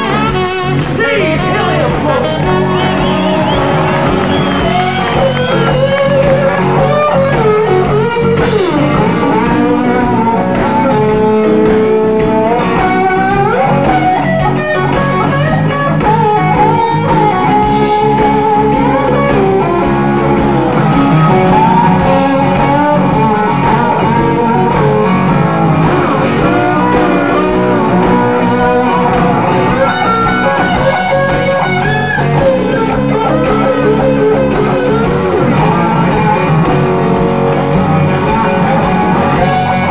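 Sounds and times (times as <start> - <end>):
bass guitar: 0.0 - 39.9
lead guitar with bent notes: 0.0 - 39.9
rhythm guitar: 0.0 - 39.9.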